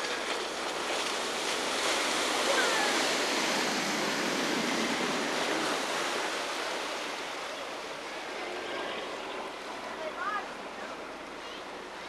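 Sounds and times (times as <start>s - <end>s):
boat wake water churning: 0.0s - 12.0s.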